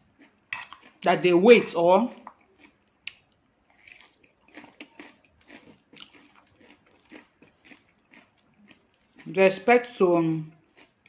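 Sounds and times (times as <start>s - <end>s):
person chewing crunchy salad: 0.0s - 11.0s.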